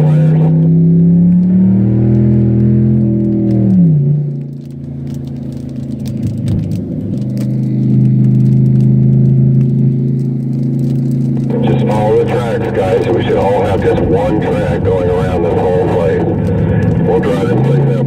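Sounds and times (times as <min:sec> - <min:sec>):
car engine revving: 0:00.0 - 0:18.0
exhaust crackling and clicking: 0:00.0 - 0:18.0.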